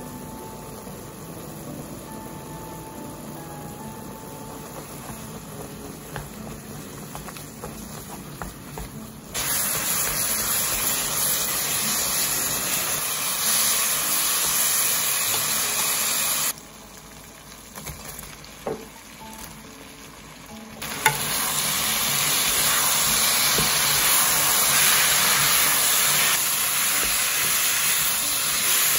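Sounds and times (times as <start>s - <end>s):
meat sizzling in a frying pan: 3.8s - 28.9s.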